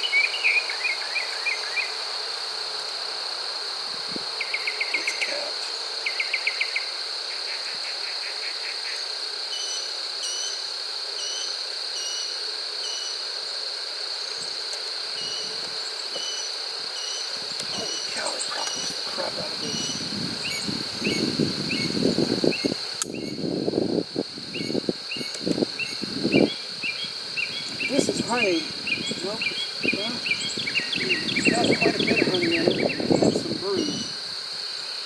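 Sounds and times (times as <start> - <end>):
insects chirping rapidly: 0.0 - 35.0
insects droning: 0.0 - 35.0
short insect chirp: 0.0 - 35.0.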